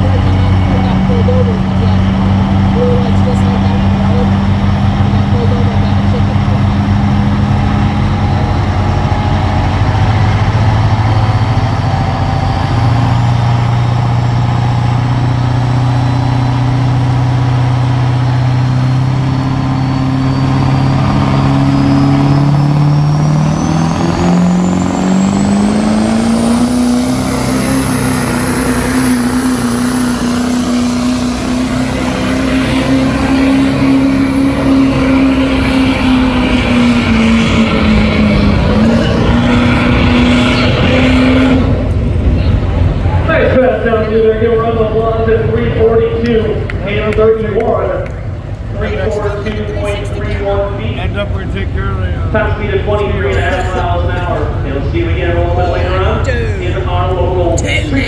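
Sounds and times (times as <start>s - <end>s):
truck engine running under load: 0.0s - 58.0s.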